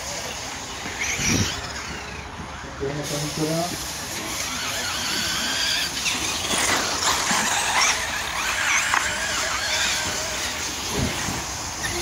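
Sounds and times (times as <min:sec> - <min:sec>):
toy truck motors whining: 0:00.0 - 0:12.0
wheels hissing on dirt: 0:00.0 - 0:12.0.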